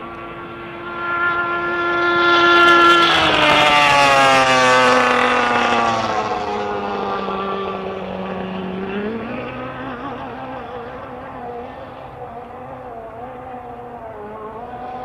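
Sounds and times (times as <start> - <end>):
jet boat engine passing: 0.0 - 15.0.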